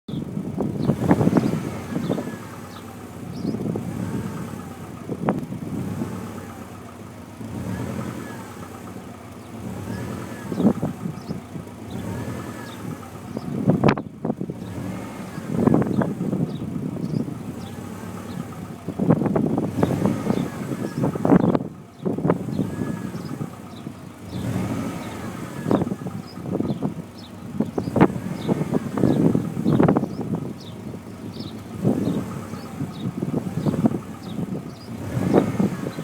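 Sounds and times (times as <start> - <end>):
engine tapping: 0.0 - 36.0
car engine revving: 0.1 - 36.0.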